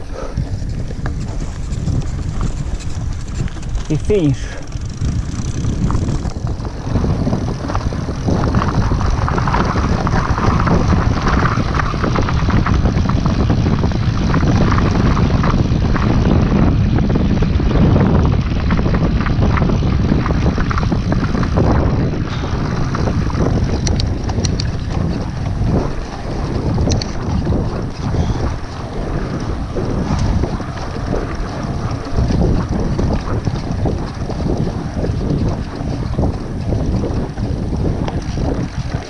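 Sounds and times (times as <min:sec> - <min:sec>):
bike tyres and frame rattling: 0:00.0 - 0:39.0
wind buffeting microphone: 0:00.0 - 0:39.0.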